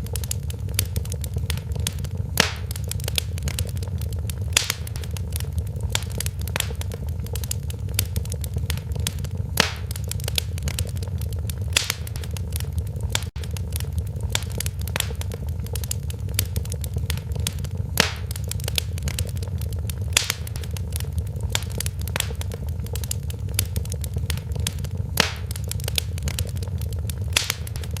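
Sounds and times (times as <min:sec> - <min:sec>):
loud fire pops: 0:00.0 - 0:28.0
wood fire crackling: 0:00.0 - 0:28.0.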